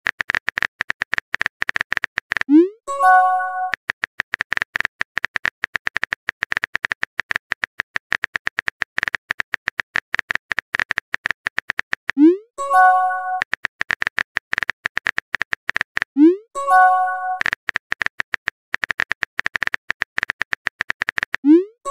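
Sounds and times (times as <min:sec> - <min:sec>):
keyboard typing clicks: 0:00.1 - 0:21.9.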